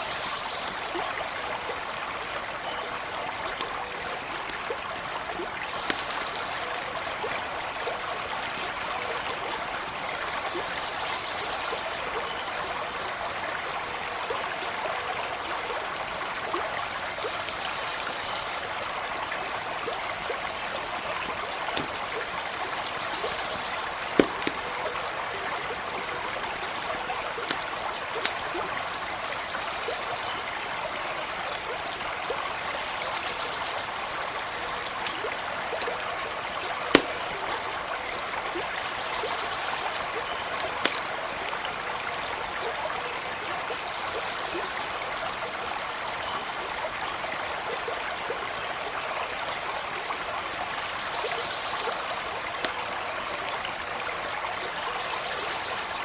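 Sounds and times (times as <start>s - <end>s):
stream running water: 0.0s - 56.0s
campfire popping and crackling: 0.6s - 42.8s, 43.7s - 55.9s.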